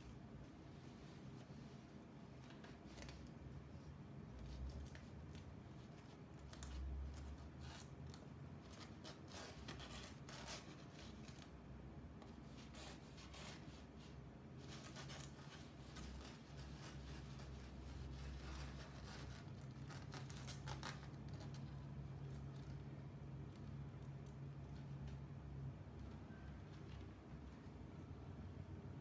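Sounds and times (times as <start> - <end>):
faint scratching and clicking: 0.0 - 28.7
low steady hum: 0.0 - 29.0.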